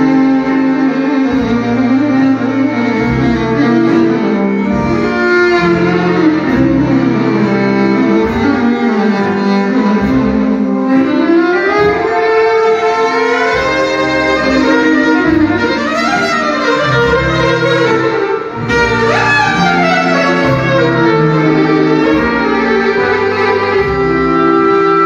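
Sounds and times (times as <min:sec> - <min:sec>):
electric violin folk melody: 0:00.0 - 0:25.0.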